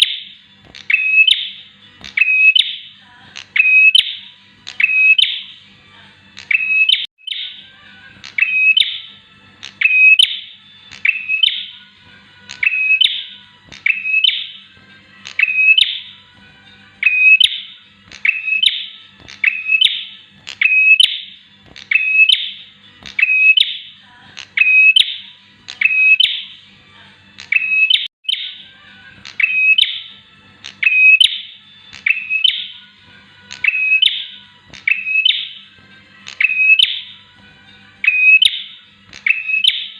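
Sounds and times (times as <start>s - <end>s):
small bird chirping song: 0.0s - 39.9s.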